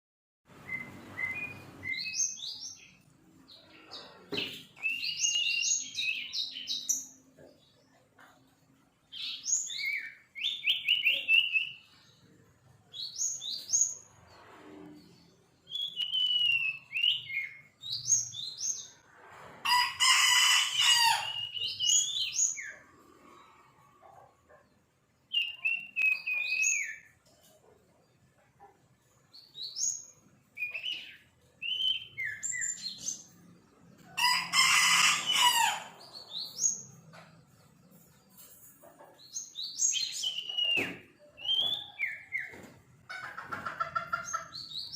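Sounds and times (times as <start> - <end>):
songbird chirps and trills: 0.5 - 19.1, 21.1 - 44.9.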